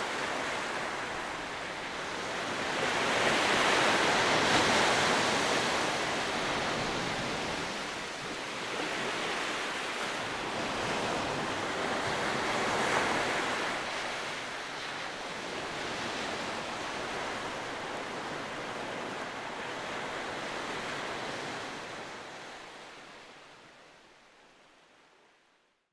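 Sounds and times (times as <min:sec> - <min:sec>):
surf washing over rocks: 0:00.0 - 0:23.9.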